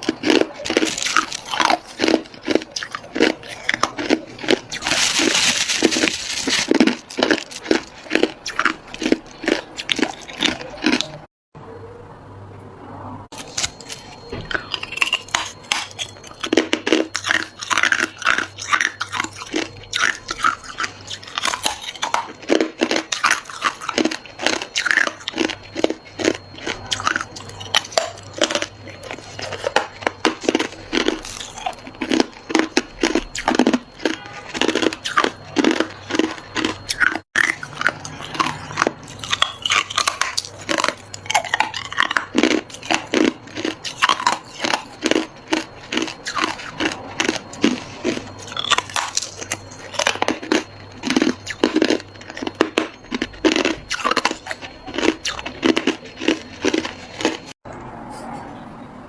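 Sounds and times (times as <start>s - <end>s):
person chewing hard ice: 0.0s - 11.3s, 13.3s - 57.6s.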